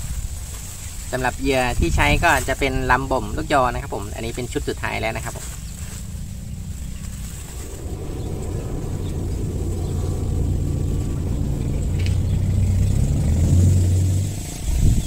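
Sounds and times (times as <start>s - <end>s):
motor engine humming: 1.8s - 15.0s.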